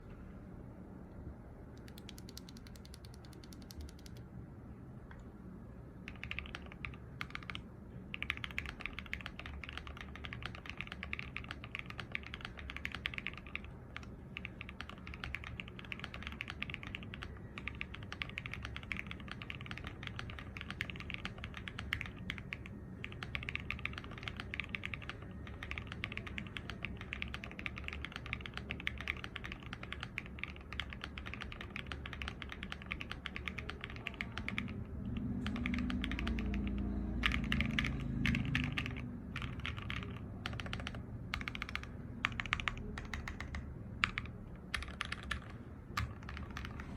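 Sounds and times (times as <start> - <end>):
mechanical keyboard typing: 1.8 - 4.3, 6.1 - 46.9.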